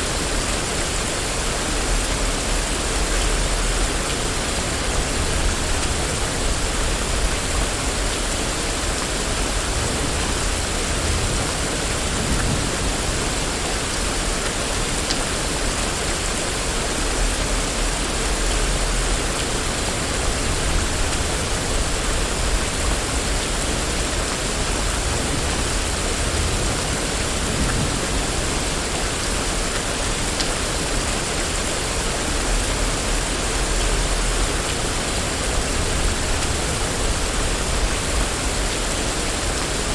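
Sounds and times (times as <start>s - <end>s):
rain falling on a street: 0.0s - 39.9s.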